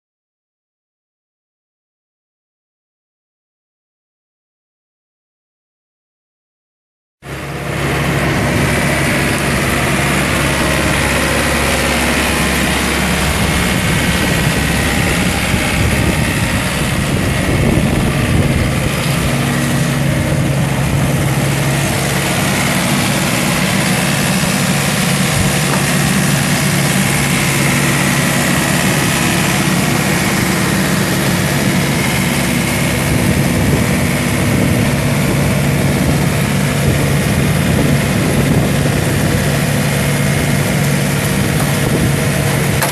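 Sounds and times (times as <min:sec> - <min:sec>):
diesel mower engine running: 0:07.2 - 0:42.9.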